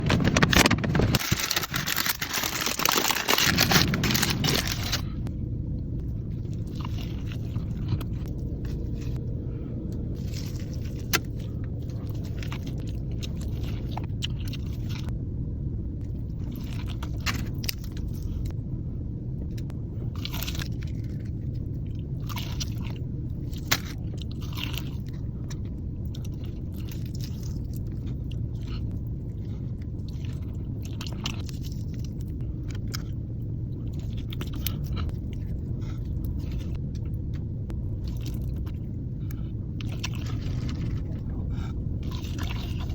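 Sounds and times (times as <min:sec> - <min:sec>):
chewing crispy food: 0:00.0 - 0:05.2, 0:06.0 - 0:09.3, 0:10.0 - 0:15.1, 0:16.0 - 0:18.6, 0:19.5 - 0:42.9
car idling rumble: 0:00.0 - 0:42.9.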